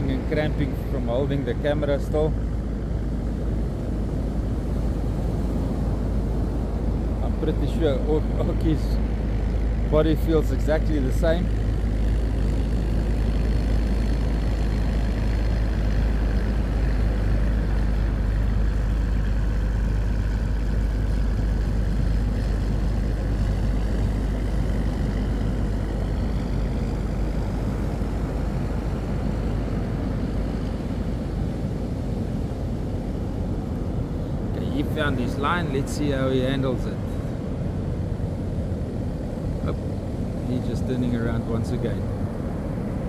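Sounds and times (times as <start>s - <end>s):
distant outboard motors: 0.0s - 43.0s
surf noise: 0.0s - 43.0s
wind rumble on microphone: 0.0s - 43.0s.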